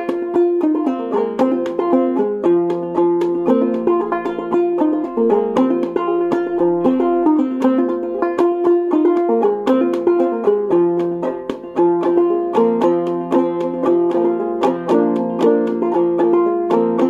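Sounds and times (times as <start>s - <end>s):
banjo playing old-time tune: 0.0s - 17.0s.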